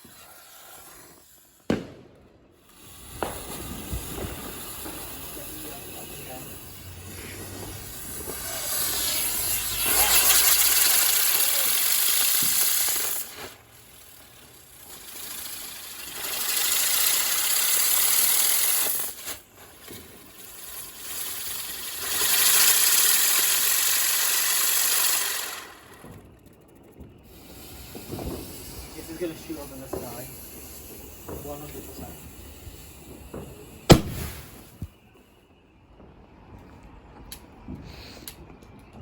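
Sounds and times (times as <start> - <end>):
firework fountain hissing: 0.0 - 35.4.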